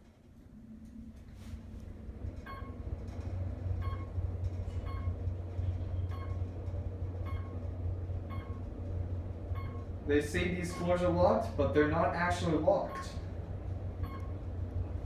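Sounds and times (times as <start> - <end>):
elevator low rumble: 0.0 - 15.0.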